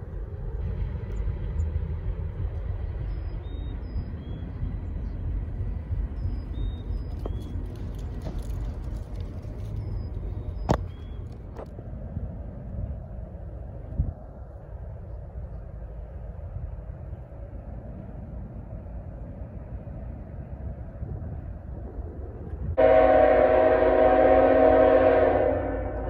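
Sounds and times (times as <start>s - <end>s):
freight train rumbling: 0.0s - 26.0s.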